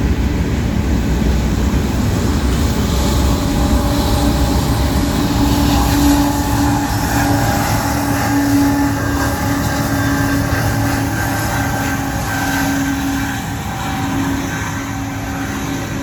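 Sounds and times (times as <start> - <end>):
locomotive engine drone: 0.0 - 16.0.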